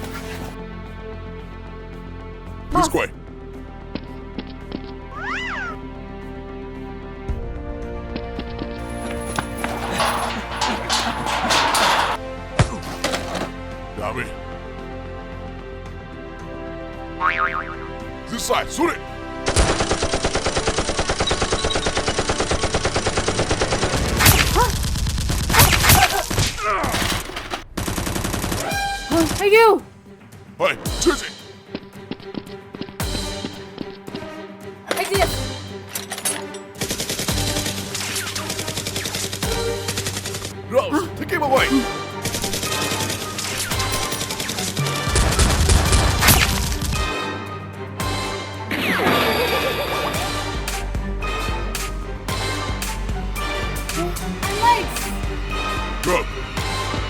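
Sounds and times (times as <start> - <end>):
action background music: 5.8 - 26.0, 27.0 - 57.0.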